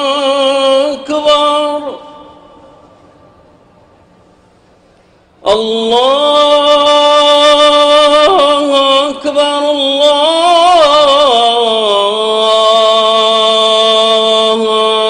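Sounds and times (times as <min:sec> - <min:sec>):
person chanting: 0:00.0 - 0:02.9, 0:05.4 - 0:15.0.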